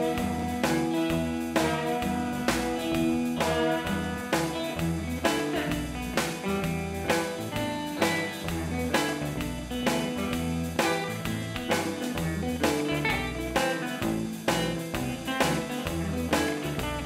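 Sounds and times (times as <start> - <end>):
background music with drum beat: 0.0 - 17.0.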